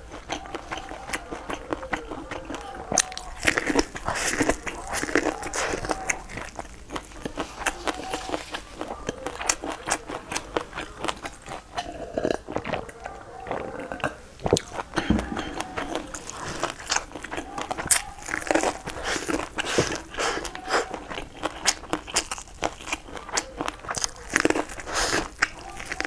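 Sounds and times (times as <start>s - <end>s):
chewing corn on the cob: 0.0s - 26.0s.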